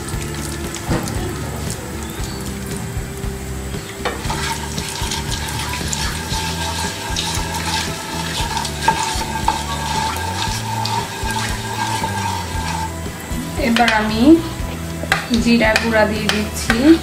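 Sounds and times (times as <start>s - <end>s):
steady tone: 0.0s - 16.7s
spices sizzling in hot oil: 0.0s - 17.0s
wooden spatula stirring in pan: 0.0s - 17.0s.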